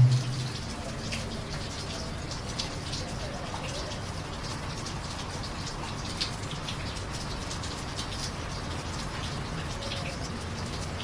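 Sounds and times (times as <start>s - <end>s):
drips and splatters: 0.0s - 11.0s
steady rain: 0.0s - 11.0s.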